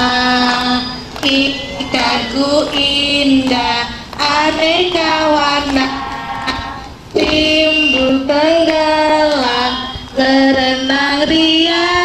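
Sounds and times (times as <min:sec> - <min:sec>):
children and women singing: 0:00.0 - 0:12.0.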